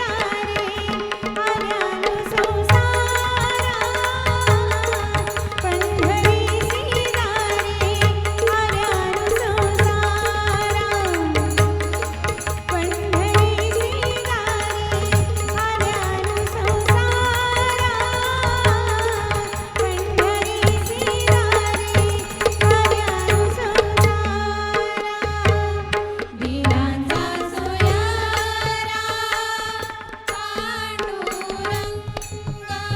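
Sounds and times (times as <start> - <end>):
tabla and pakhawaj drums: 0.0 - 32.9
woman singing: 0.0 - 32.9.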